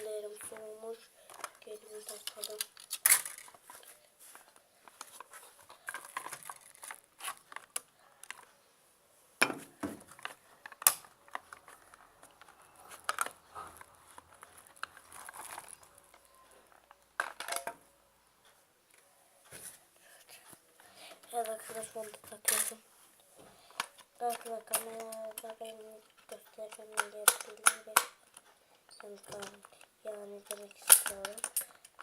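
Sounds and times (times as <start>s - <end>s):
batteries clicking and rattling: 0.2s - 8.5s, 10.1s - 17.8s, 21.0s - 22.8s, 23.6s - 32.0s.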